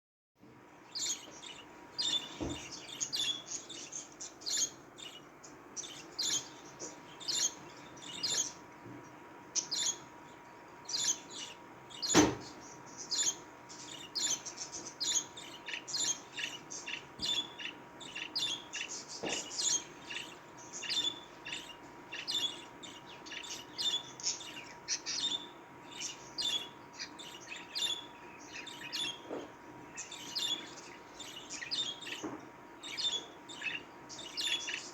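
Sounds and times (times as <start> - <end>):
budgerigars chirping: 0.8 - 34.9.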